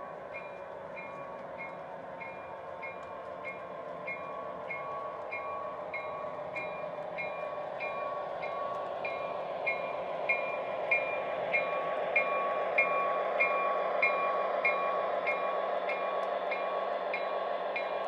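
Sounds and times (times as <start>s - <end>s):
locomotive bell ringing: 0.3s - 18.0s.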